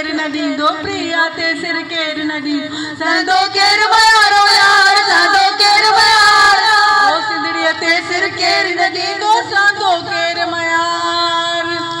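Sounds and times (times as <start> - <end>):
woman singing through loudspeakers: 0.0 - 12.0.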